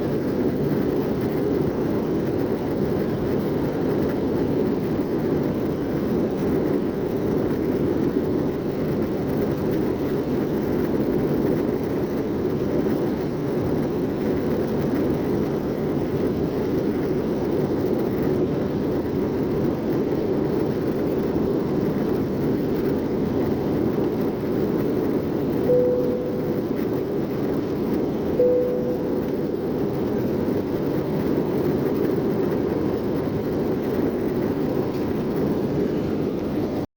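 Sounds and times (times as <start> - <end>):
jet engines humming: 0.0 - 36.8.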